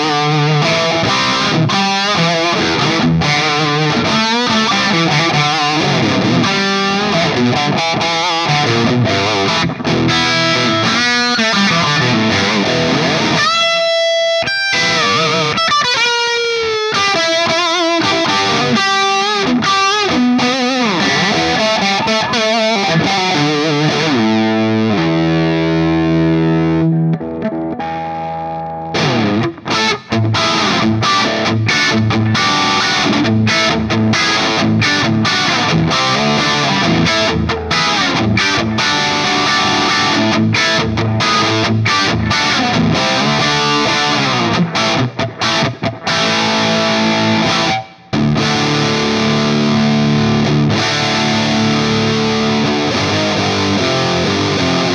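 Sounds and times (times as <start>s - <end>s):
distorted electric guitar: 0.0s - 54.9s.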